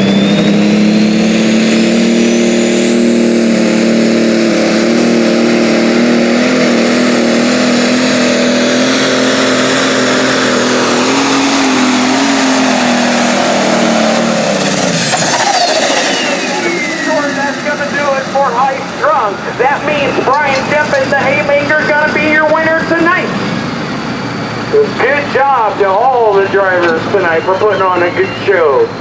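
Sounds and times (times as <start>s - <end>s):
high turbo whine: 0.0s - 29.0s
tractor diesel engine under load: 0.0s - 29.0s.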